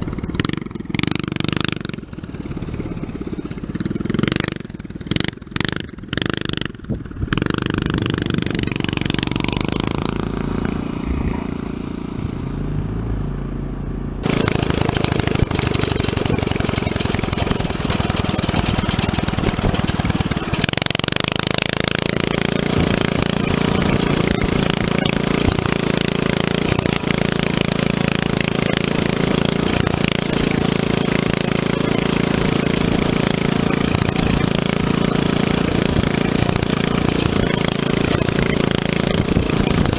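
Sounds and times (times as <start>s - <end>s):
mini bike engine running: 0.0s - 13.1s, 14.2s - 39.9s.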